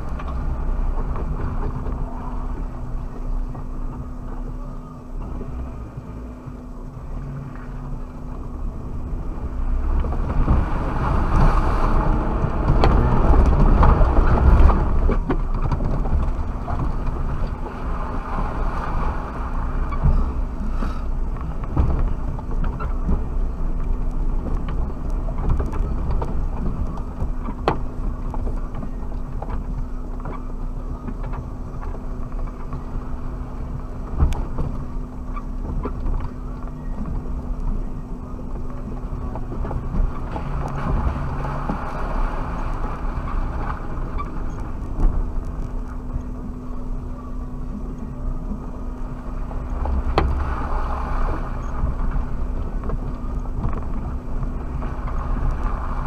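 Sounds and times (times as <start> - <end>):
car engine humming: 0.0 - 56.0
low rumble: 0.0 - 56.0.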